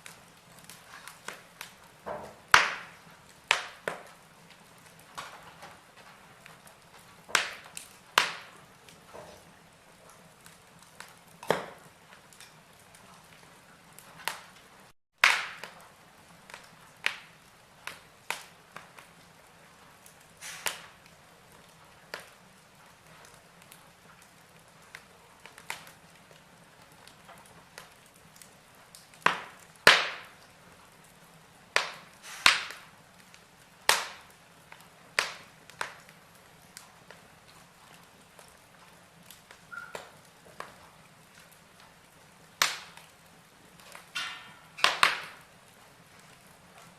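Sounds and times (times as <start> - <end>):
faint fire hiss: 0.0 - 46.9
logs crackling and popping: 0.0 - 46.9.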